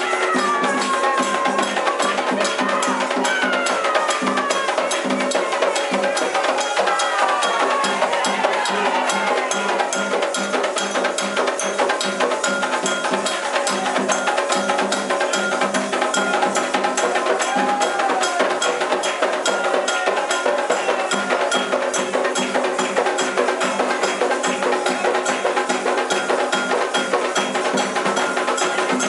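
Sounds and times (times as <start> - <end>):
hand drums: 0.0 - 29.0
struck bell: 0.0 - 29.0.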